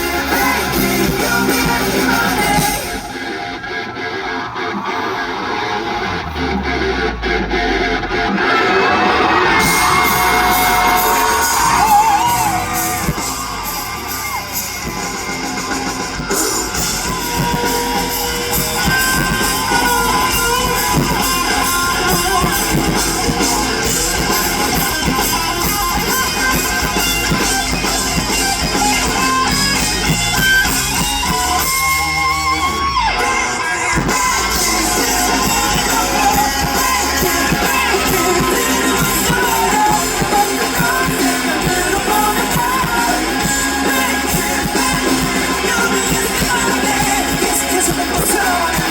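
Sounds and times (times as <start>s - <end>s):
live rock band with singing: 0.0s - 48.9s.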